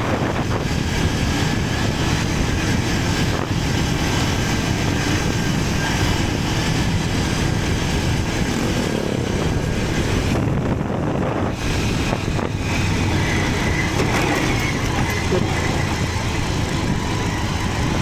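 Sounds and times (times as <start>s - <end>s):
heavy wind noise on microphone: 0.0s - 18.0s
motorcycle engine running: 0.0s - 18.0s.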